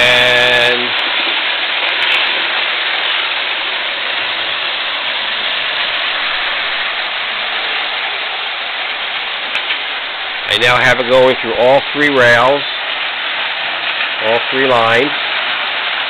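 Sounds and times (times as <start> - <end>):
model train rolling on rails: 0.0 - 16.0.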